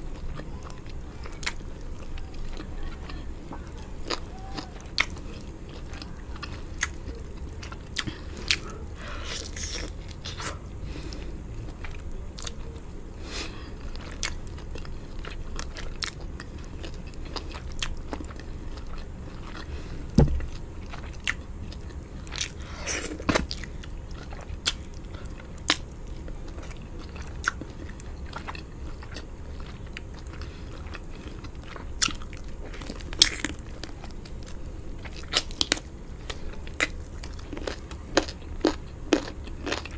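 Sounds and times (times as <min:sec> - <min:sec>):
chewing and biting: 0:00.1 - 0:12.8, 0:13.8 - 0:39.9.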